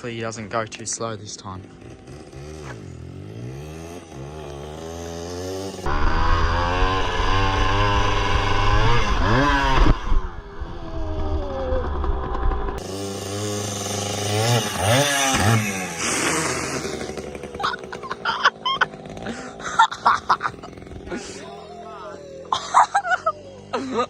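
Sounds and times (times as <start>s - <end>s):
pit bike engine revving: 0.0s - 24.0s.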